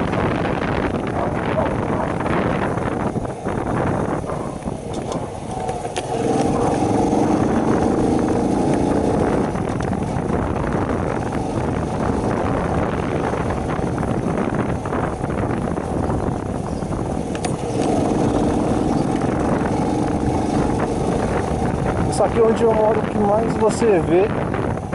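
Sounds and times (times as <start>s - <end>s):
motorbike engine running: 0.0s - 24.9s
wind buffeting microphone: 0.0s - 24.9s.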